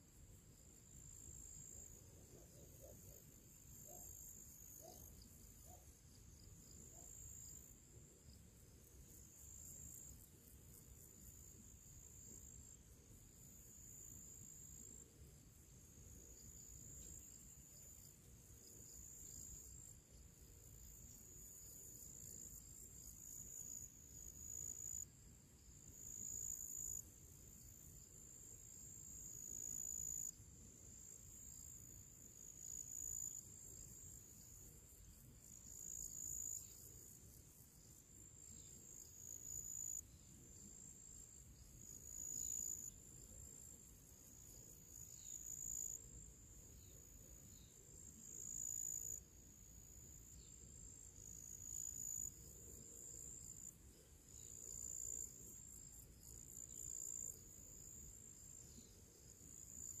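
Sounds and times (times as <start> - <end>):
insects chirping trill: 0.0 - 60.0.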